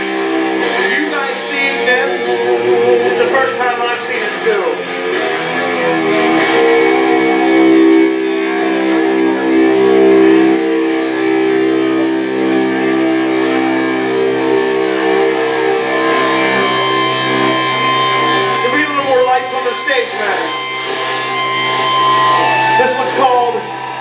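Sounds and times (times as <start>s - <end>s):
electric guitar chord ringing: 0.0s - 24.0s.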